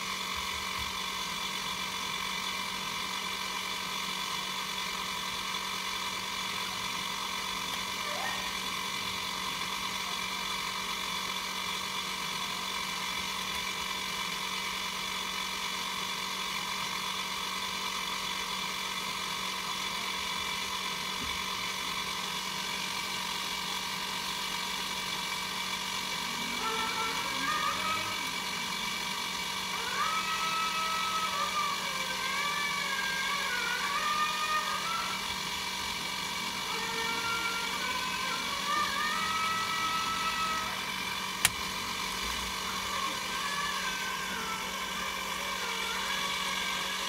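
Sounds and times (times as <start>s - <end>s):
potter's wheel motor hum: 0.0s - 47.0s.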